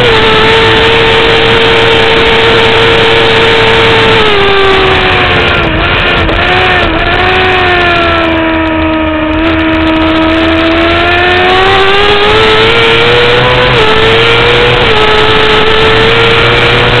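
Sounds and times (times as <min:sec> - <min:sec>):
motorcycle engine at high revs: 0:00.0 - 0:17.0
steady rush of noise: 0:00.0 - 0:17.0.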